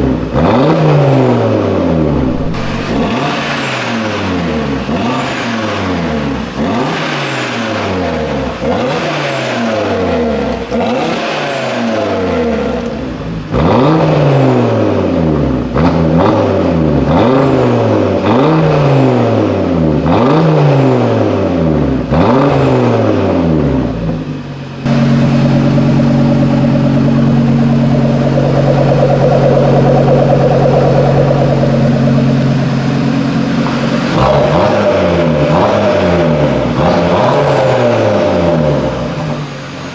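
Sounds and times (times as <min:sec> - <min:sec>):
car engine revving: 0:00.0 - 0:24.0, 0:24.8 - 0:39.9.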